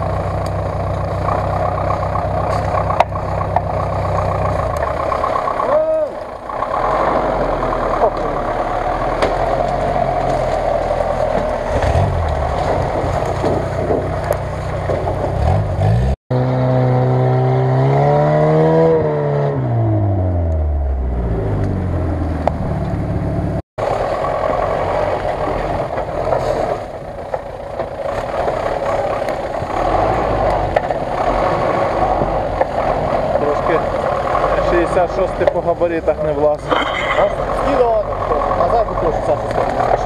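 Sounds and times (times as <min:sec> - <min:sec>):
truck engine running under load: 0:00.0 - 0:16.2, 0:20.9 - 0:40.0
small car engine revving: 0:00.0 - 0:40.0.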